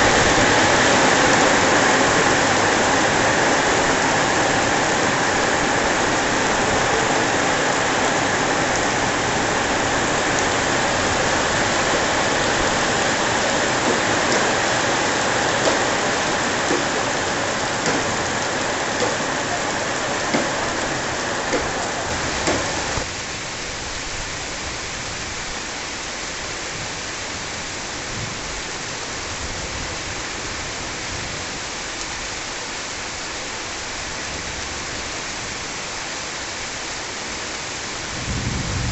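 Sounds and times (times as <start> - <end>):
heavy rain on paving and roofs: 0.0 - 38.9.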